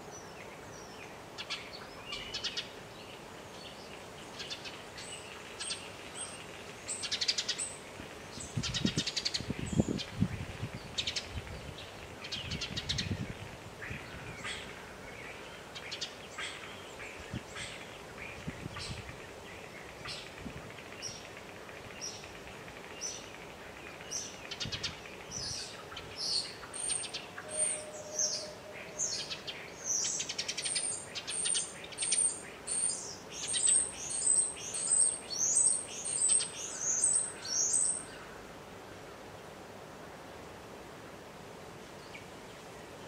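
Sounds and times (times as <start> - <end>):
songbird chirping: 0.0 - 39.3.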